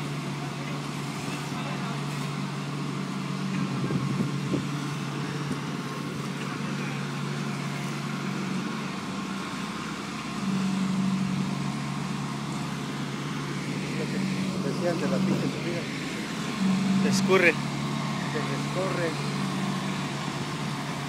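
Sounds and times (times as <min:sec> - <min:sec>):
truck engine low hum: 0:00.0 - 0:21.0.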